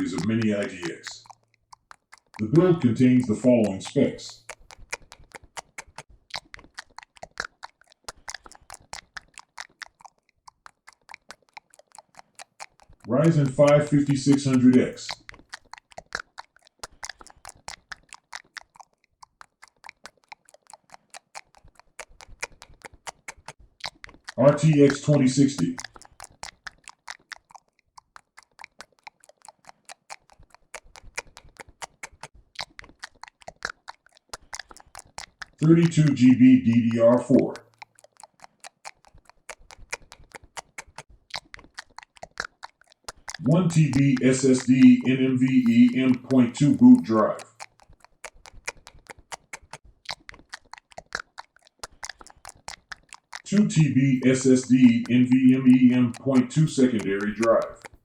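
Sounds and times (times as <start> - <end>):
rapid sharp clicks: 0.0 - 36.3, 36.9 - 58.0.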